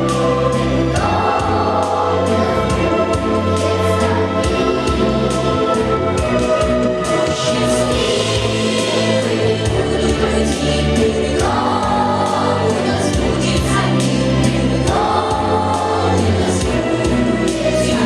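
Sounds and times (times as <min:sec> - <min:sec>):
instrumental backing music: 0:00.0 - 0:18.0
voices singing in chorus: 0:00.0 - 0:18.0.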